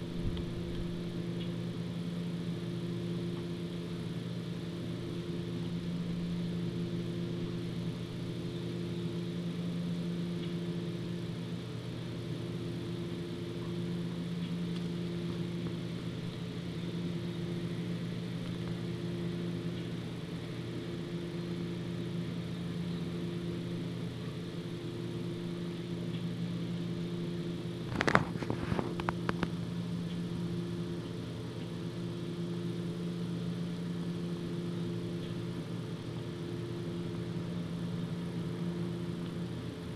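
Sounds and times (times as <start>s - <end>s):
engine running with low hum: 0.0s - 39.9s.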